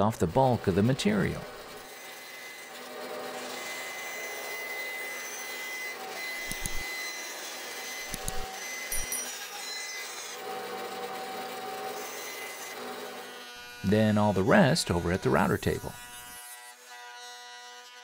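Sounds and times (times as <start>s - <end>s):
bandsaw cutting wood: 0.0s - 18.0s.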